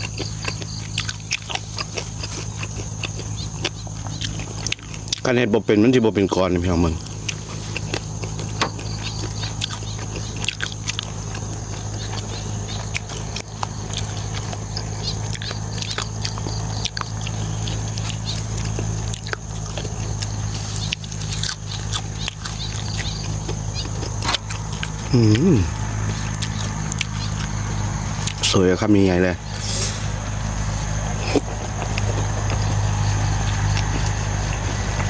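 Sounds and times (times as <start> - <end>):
chewing with lip smacks: 0.0 - 35.0
steady low hum: 0.0 - 35.0.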